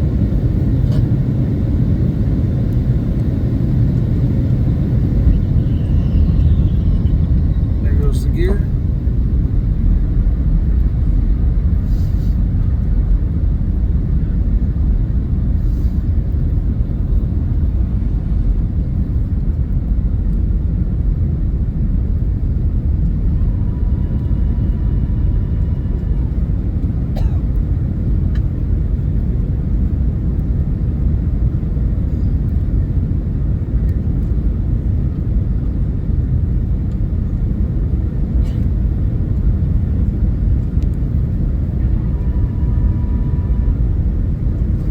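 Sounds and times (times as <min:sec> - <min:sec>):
airplane engines and airflow rumble: 0:00.0 - 0:44.9.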